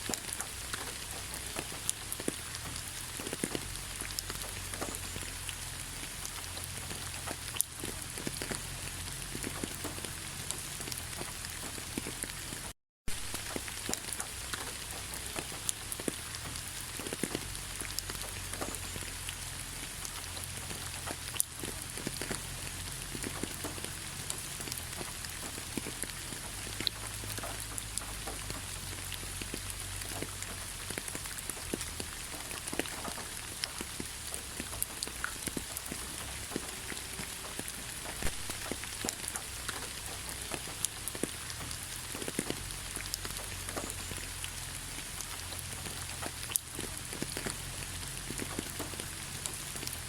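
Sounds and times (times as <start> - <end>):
rain hiss: 0.0 - 50.0
raindrops tapping: 0.0 - 50.0.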